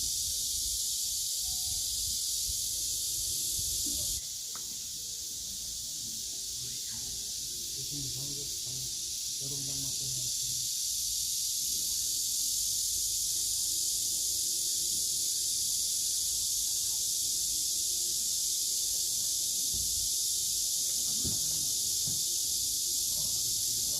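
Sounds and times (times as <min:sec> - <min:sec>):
high-pitched outdoor hiss: 0:00.0 - 0:23.9.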